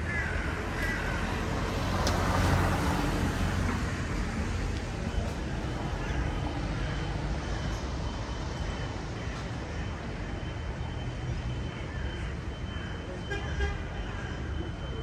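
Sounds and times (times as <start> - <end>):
vehicle engine rumbling: 0.0 - 12.9
road noise: 0.0 - 15.0.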